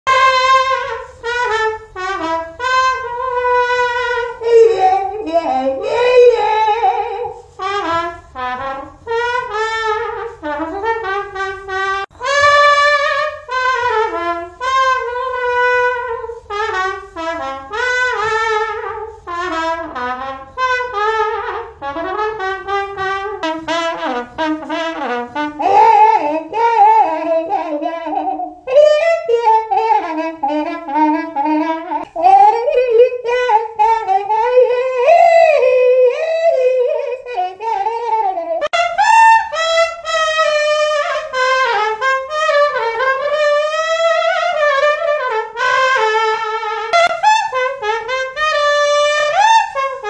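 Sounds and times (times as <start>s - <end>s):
person imitating trumpet: 0.1s - 50.0s.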